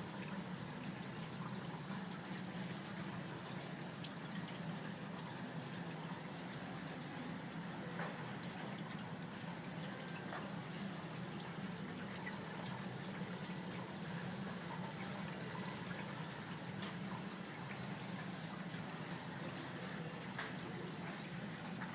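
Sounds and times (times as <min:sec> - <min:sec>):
water trickling and dripping: 0:00.0 - 0:21.9.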